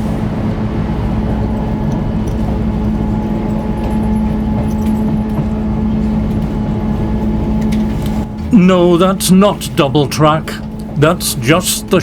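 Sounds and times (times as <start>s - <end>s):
diesel train engine drone: 0.0s - 12.0s.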